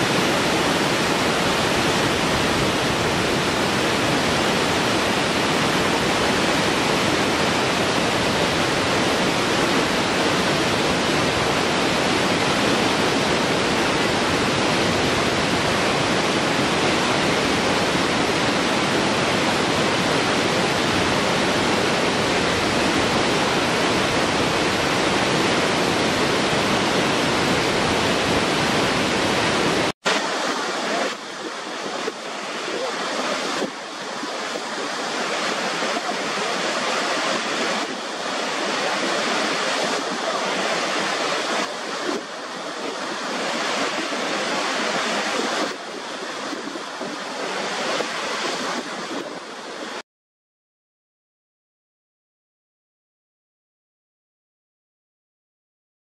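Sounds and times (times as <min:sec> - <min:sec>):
waterfall rushing water: 0:00.0 - 0:50.0
wind on microphone: 0:00.0 - 0:50.0.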